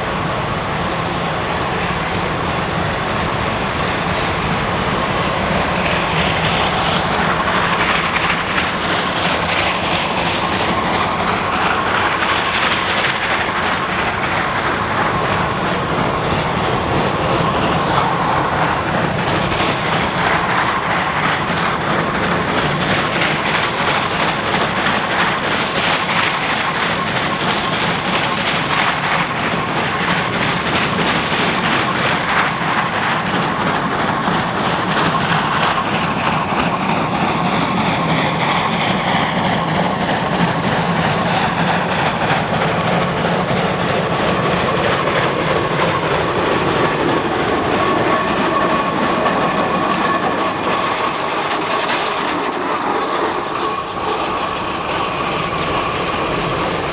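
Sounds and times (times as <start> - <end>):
steam locomotive exhaust: 0.0 - 56.9
train noise: 0.0 - 56.9.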